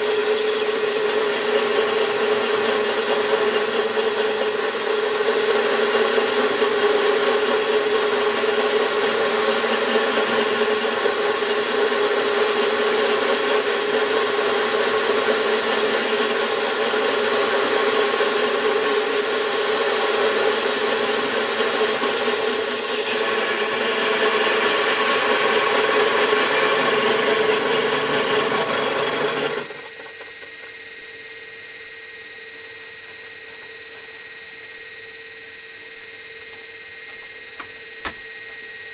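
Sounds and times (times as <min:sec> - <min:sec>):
milling machine cutting metal: 0:00.0 - 0:31.2
motor whine: 0:00.0 - 0:38.9.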